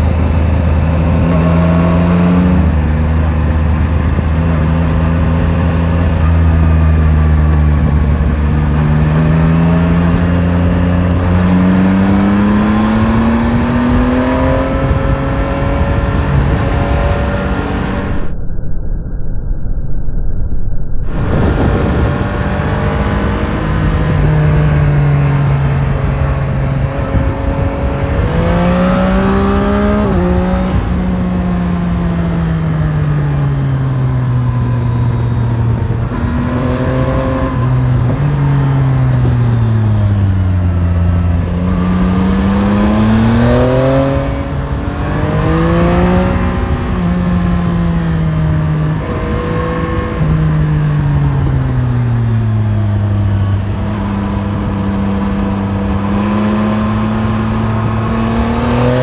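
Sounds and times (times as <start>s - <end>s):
motorcycle engine revving: 0.0s - 18.4s, 21.0s - 59.0s
wind rush: 0.0s - 20.3s, 21.0s - 59.0s.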